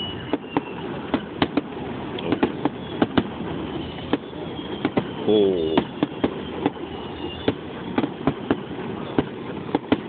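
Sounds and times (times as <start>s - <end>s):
high firework whistles: 0.0s - 1.7s, 2.3s - 10.0s
fireworks bangs: 0.0s - 10.0s.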